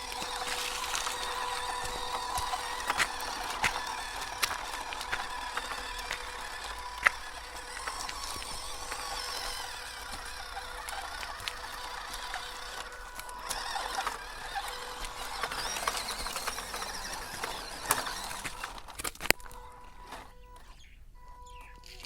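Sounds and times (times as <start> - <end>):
crackle of clicks and ratcheting: 0.0 - 22.0
toy truck drivetrain whine: 0.0 - 22.0.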